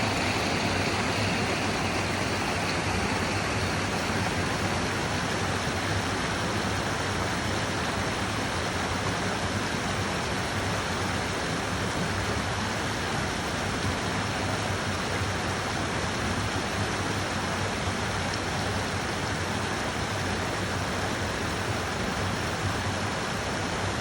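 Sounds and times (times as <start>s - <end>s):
mountain stream rushing: 0.0s - 24.0s.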